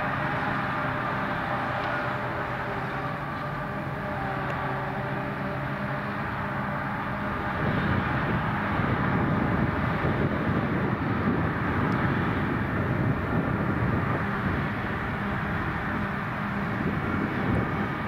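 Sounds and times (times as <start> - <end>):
tractor running: 0.0 - 18.0.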